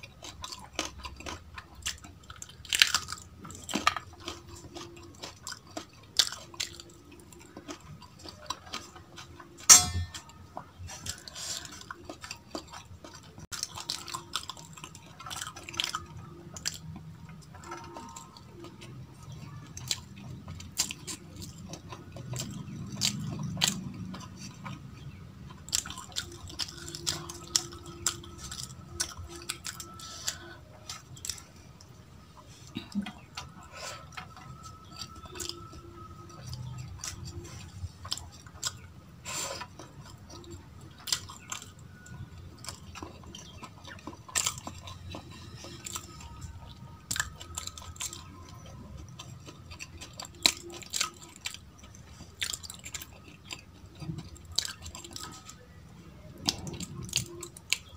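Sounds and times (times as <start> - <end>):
wet chewing with mouth clicks: 0.0 - 57.9.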